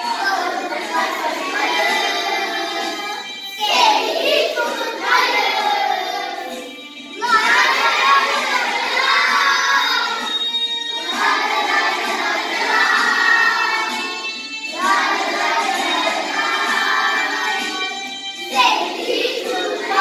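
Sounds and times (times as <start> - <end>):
children singing in unison: 0.0 - 20.0.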